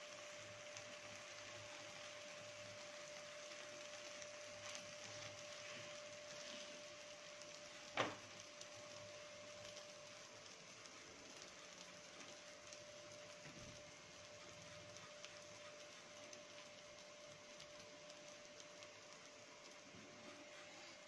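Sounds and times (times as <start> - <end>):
faint steady hiss: 0.0 - 21.0
thin steady hum: 0.0 - 21.0.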